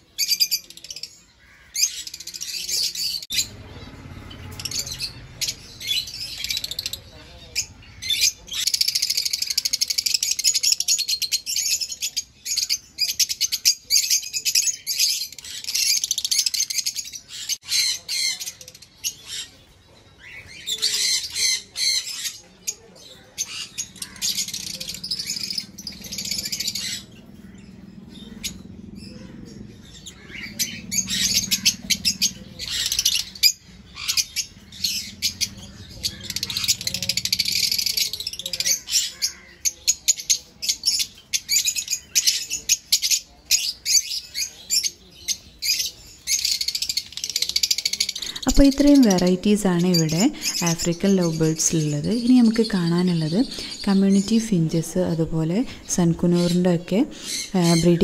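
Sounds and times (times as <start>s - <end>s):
lovebirds chirping and squawking: 0.0s - 58.0s.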